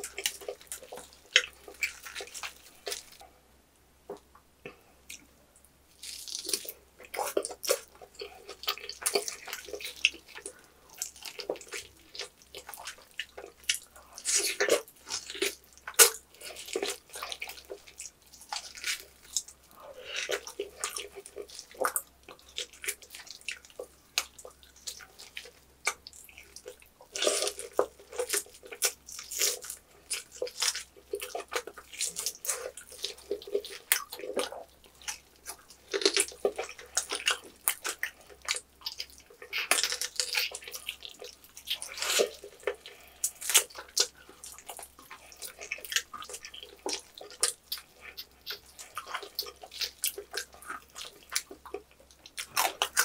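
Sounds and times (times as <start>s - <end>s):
wet chewing and smacking: 0.0s - 3.3s, 5.9s - 53.0s
crunch of biting: 6.0s - 23.6s, 24.2s - 53.0s.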